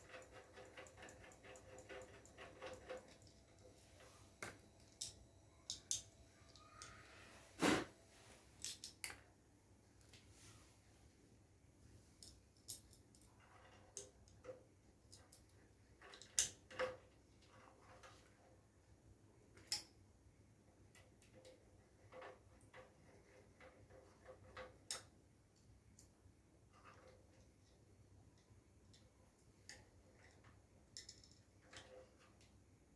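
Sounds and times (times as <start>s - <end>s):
small parts and hand tools clicking: 0.0s - 7.1s, 8.6s - 9.3s, 12.2s - 18.6s, 19.5s - 20.0s, 20.8s - 32.8s.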